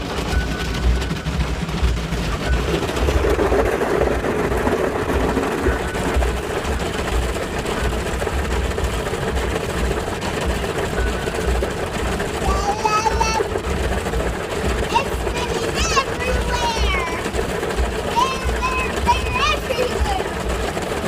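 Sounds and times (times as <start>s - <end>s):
car wash machinery running: 0.0s - 21.0s.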